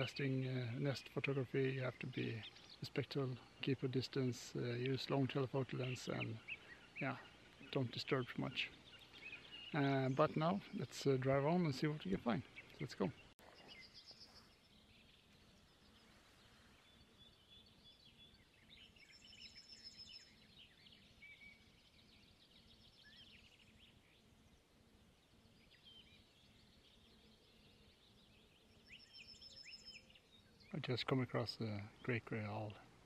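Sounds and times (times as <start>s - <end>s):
faint songbirds singing: 0.0s - 33.0s.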